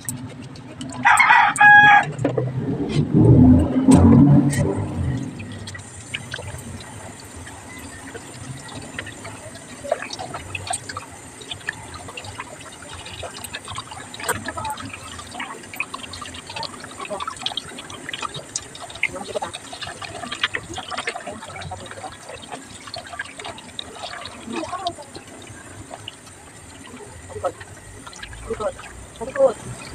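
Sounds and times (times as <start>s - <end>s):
hands rubbing and rinsing fish: 0.0s - 1.6s, 4.7s - 29.9s
water splashing: 0.0s - 29.9s
tap water running into a bowl: 4.7s - 29.9s.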